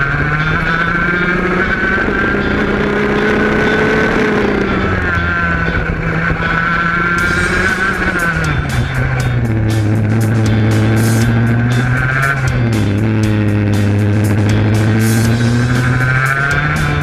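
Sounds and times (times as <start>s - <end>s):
go-kart engine running hard: 0.0s - 17.0s.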